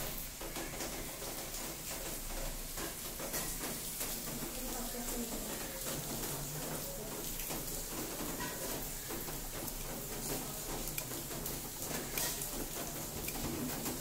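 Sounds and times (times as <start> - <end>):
washing machine water swishing: 0.0 - 14.0.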